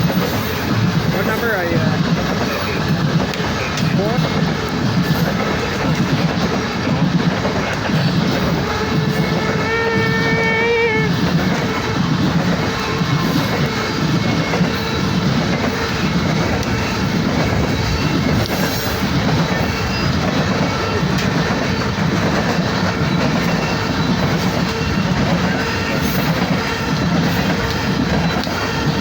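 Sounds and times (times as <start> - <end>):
train wheels clattering on rails: 0.0 - 29.0.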